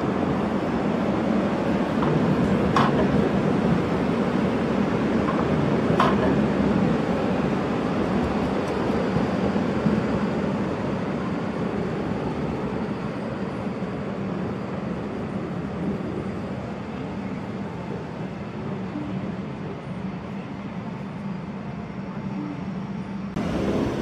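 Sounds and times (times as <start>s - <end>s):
tram rumbling on rails: 0.0s - 24.0s.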